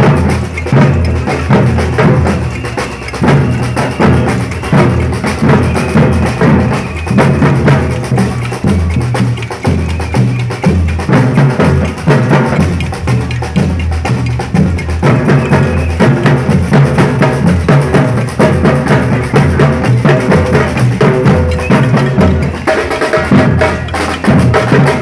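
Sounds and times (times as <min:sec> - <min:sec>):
bass drums beating: 0:00.0 - 0:25.0.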